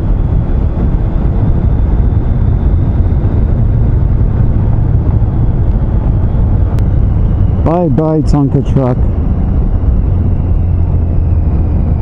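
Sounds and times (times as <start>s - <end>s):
faint thin whine: 0.0s - 12.0s
motorcycle engine rumble: 0.0s - 12.0s
wind rush on microphone: 0.0s - 12.0s.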